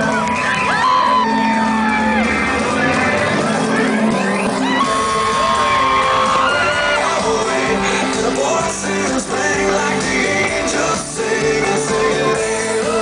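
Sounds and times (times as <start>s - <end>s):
loud pop music with singing: 0.0s - 13.0s.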